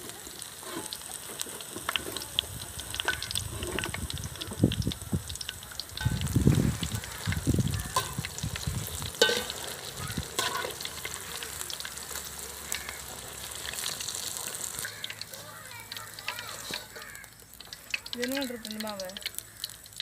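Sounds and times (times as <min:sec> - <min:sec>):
deep-frying in hot oil sizzle: 0:00.0 - 0:20.0.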